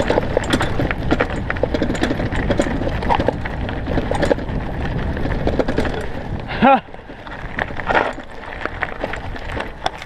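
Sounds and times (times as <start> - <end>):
bike clicks and rattles: 0.0 - 10.0
wind and tyres rumbling: 0.0 - 10.0.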